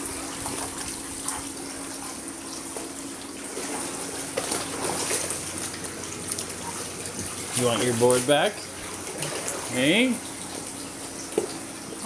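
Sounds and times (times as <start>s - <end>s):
light water splashes: 0.0s - 12.0s
low steady hum: 0.0s - 12.0s.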